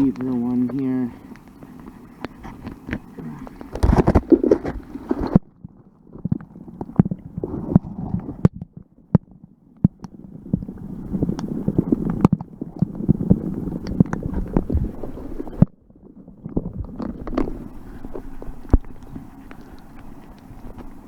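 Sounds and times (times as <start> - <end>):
muffled water sloshing and gurgling: 0.0 - 21.0.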